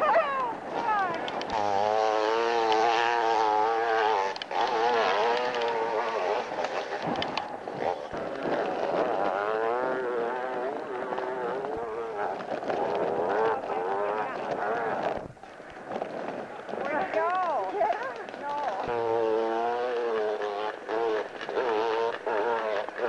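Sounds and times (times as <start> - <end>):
motorcycle engine revving hard: 0.0 - 15.3, 18.8 - 23.0.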